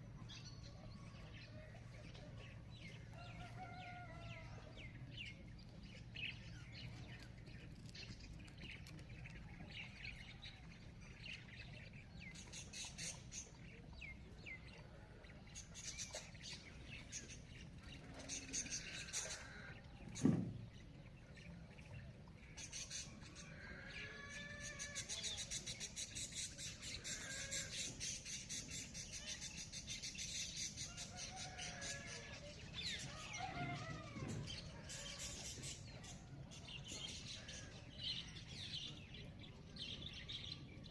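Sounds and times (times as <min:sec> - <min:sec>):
birds chirping and calling: 0:00.0 - 0:40.9.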